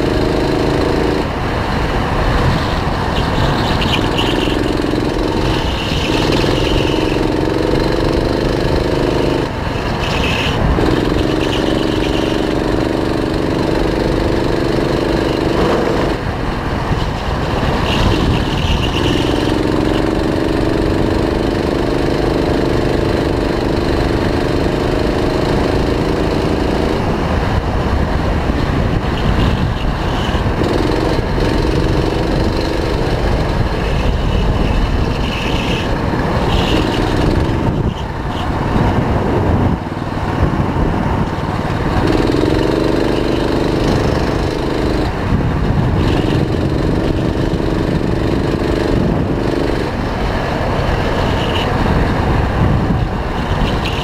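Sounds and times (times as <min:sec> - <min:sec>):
go-kart engine at speed: 0:00.0 - 0:54.0
wind and tyre rumble: 0:00.0 - 0:54.0.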